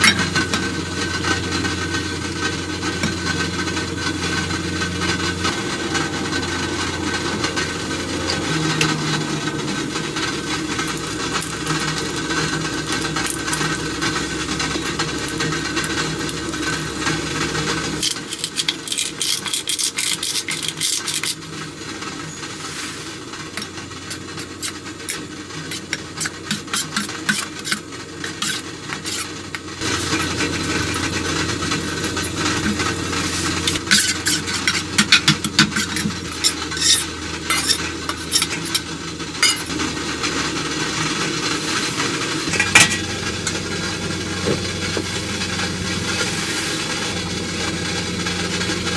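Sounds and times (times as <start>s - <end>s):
metal utensils scraping griddle: 0.0s - 48.9s
food sizzling on griddle: 8.6s - 48.9s.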